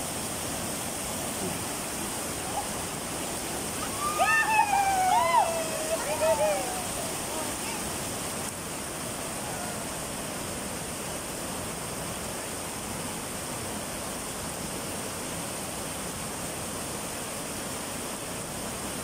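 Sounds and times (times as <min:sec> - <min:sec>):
whitewater rushing over rock: 0:00.0 - 0:19.0.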